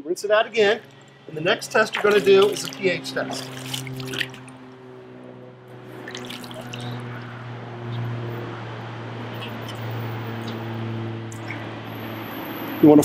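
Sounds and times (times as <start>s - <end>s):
pool water splashing and trickling: 0.6s - 8.3s, 9.2s - 12.8s.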